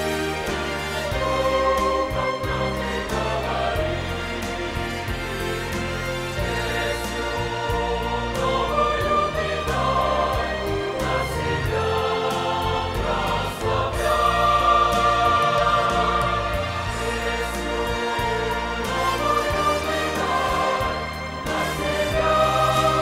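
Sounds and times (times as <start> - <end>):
choir singing a hymn: 0.0 - 23.0
instrumental bass accompaniment: 0.0 - 23.0.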